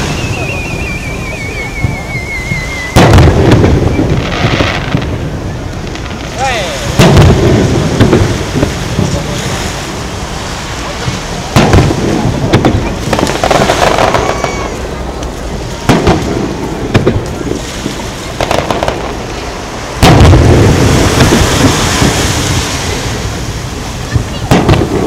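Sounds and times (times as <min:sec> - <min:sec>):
firework shells booming: 0:00.0 - 0:10.0, 0:11.0 - 0:25.0.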